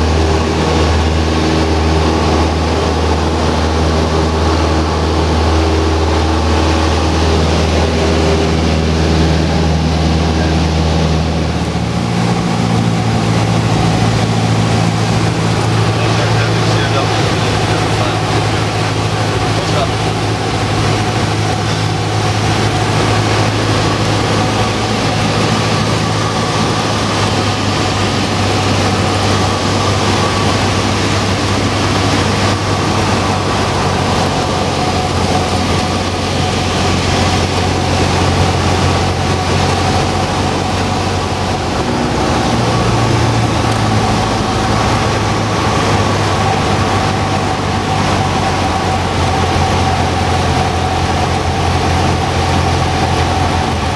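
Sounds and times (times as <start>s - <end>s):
airplane engine and propeller droning: 0.0s - 53.9s
rush of airflow: 0.0s - 53.9s.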